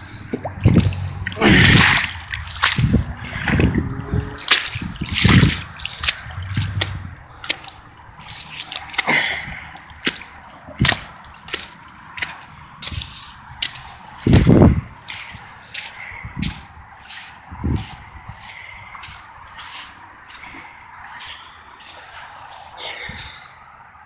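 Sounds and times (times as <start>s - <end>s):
boots squelching in wet sand: 0.0s - 23.7s.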